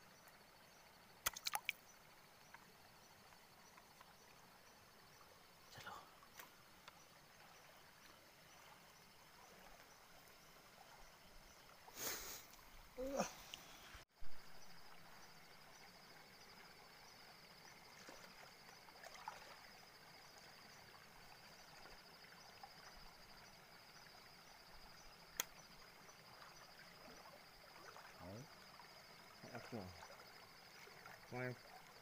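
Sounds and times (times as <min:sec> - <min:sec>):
insect trill: 0:00.0 - 0:32.0
shallow stream flowing: 0:00.0 - 0:32.0.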